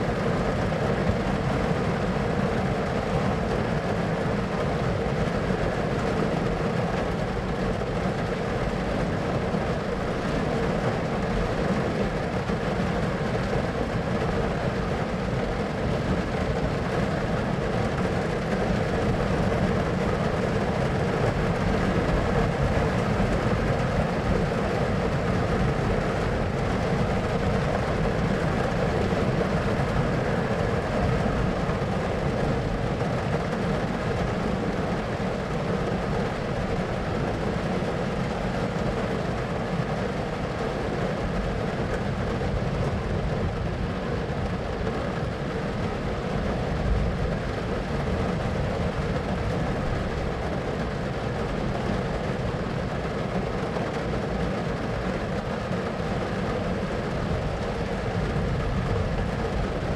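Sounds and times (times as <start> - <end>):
steady low rumbling noise: 0.0 - 59.9.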